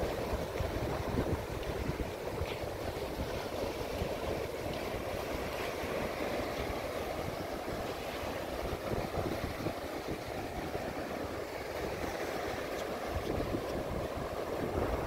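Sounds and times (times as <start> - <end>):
surf breaking on beach: 0.0 - 15.0
wind rumbling on microphone: 0.0 - 15.0.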